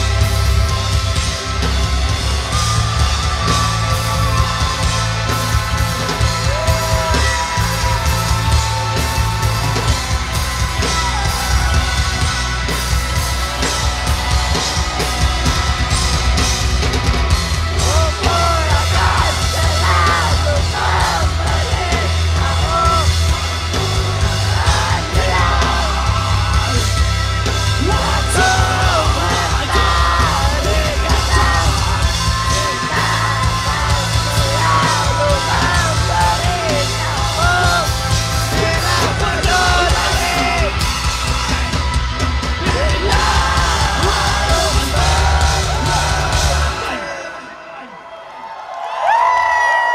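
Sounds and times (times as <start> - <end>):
lead vocal singing: 0.0 - 16.5, 17.2 - 48.0
rock band playing live: 0.0 - 47.9.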